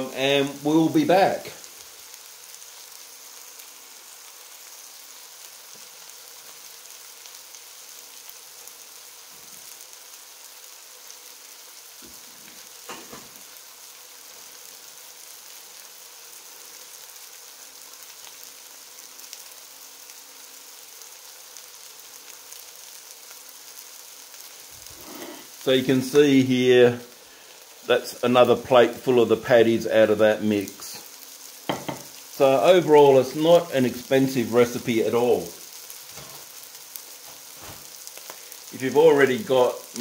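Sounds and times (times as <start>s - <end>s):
patties sizzling in hot fat: 0.0s - 40.0s.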